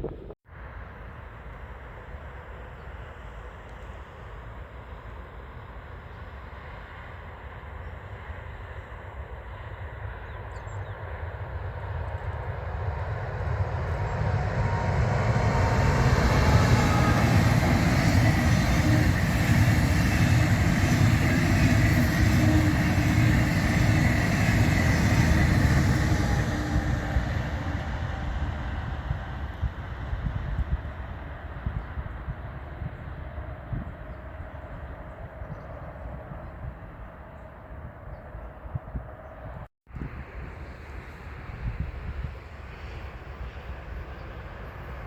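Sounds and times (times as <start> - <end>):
train passing on rails: 0.6 - 45.0.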